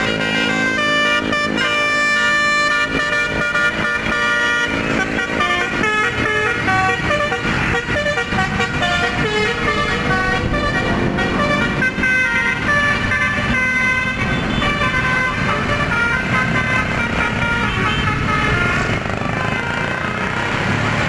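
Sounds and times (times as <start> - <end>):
multi-tone bus air horn tune: 0.0 - 20.7.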